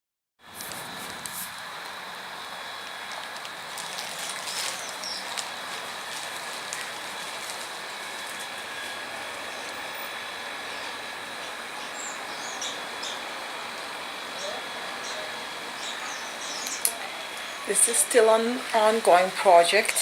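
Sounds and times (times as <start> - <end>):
outdoor background hiss: 0.4 - 20.0.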